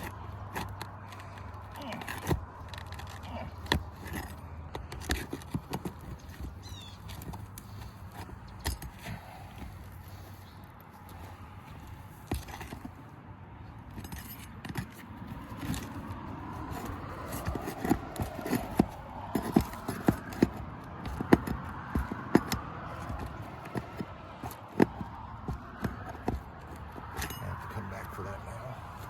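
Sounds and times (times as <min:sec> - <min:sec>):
tool prying up shingles: 0:00.0 - 0:09.8, 0:11.2 - 0:13.0, 0:13.8 - 0:27.8.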